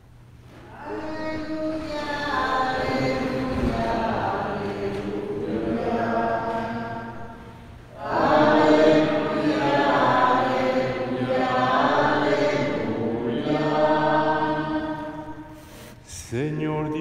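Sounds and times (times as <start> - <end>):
choir singing chant-like music: 0.7 - 15.6.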